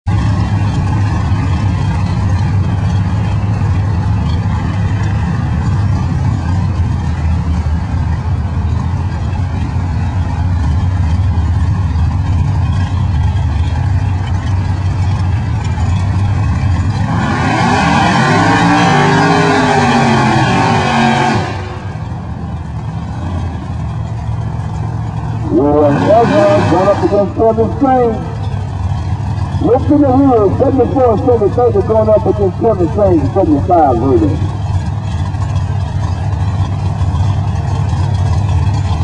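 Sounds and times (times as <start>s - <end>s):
drag car engine rumbling and revving: 0.0s - 39.0s.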